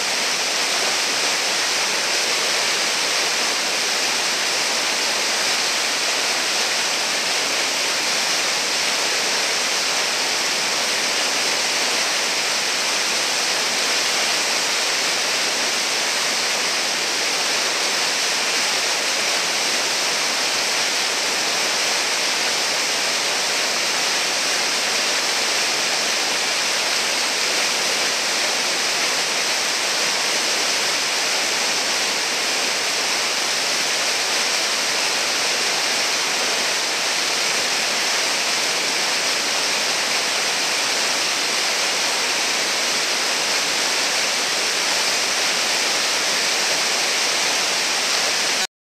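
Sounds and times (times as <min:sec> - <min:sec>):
whitewater rushing: 0:00.0 - 0:48.7.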